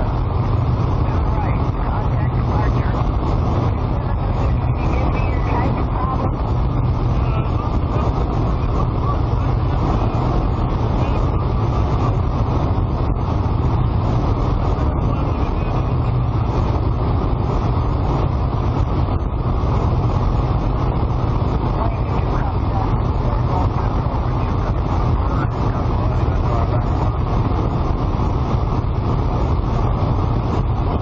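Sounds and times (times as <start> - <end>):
light aircraft engine and propeller: 0.0 - 31.0
rushing wind: 0.0 - 31.0.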